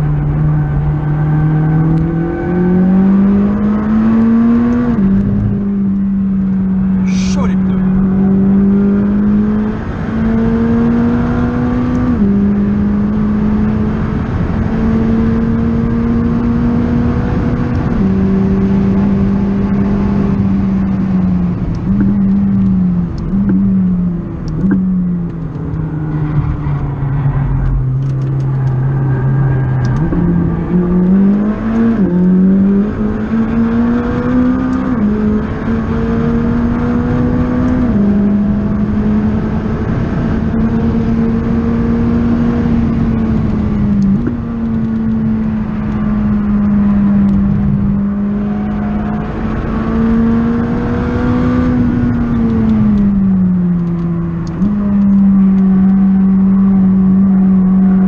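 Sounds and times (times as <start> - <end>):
car engine revving through gears: 0.0 - 58.0.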